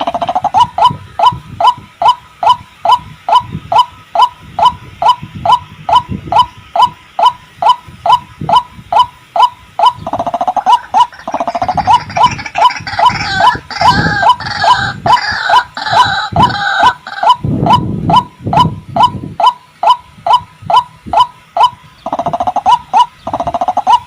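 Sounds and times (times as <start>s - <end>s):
waterhen calling hoarse notes: 0.0s - 24.0s.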